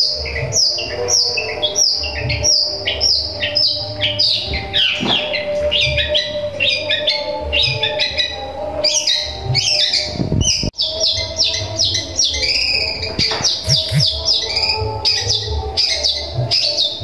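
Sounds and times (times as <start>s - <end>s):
bird chirping rapidly: 0.0s - 17.0s.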